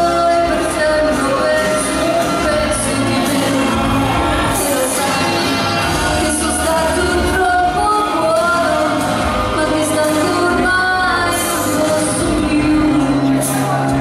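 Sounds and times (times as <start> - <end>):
backing music: 0.0 - 14.0
woman singing into microphone: 0.0 - 14.0.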